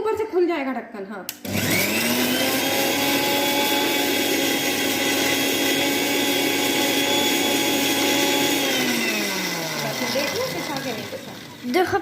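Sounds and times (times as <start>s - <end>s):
mixer grinder motor whine: 1.3s - 12.0s.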